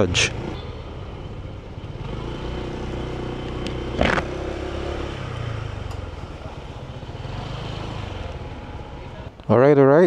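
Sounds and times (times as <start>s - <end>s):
scooter engine running: 0.1s - 9.3s.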